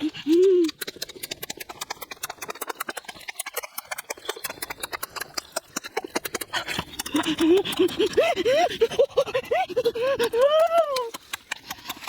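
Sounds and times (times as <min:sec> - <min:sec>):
person chewing and smacking food: 0:00.0 - 0:09.4, 0:10.0 - 0:12.0.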